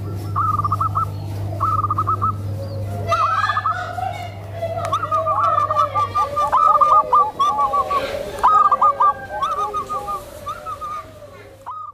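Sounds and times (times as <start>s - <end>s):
doves cooing: 0.0s - 11.9s.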